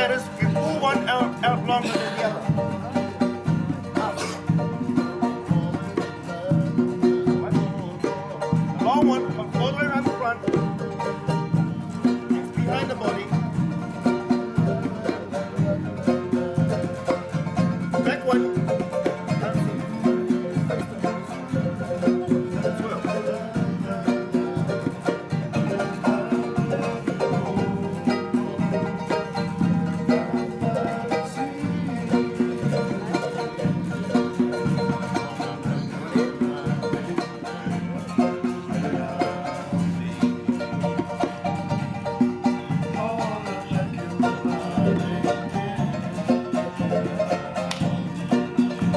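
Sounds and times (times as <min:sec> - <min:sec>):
hand drums: 0:00.0 - 0:48.9
plucked strings: 0:00.0 - 0:48.9.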